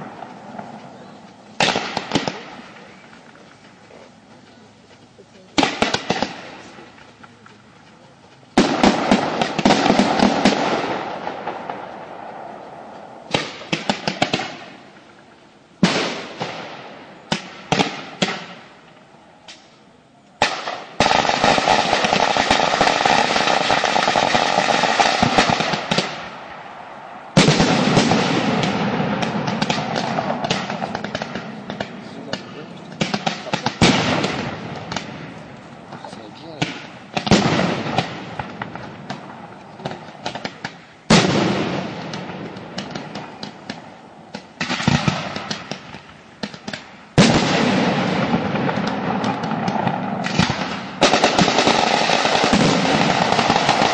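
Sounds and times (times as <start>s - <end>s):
fireworks crackling and banging: 0.0s - 19.8s, 20.4s - 53.9s.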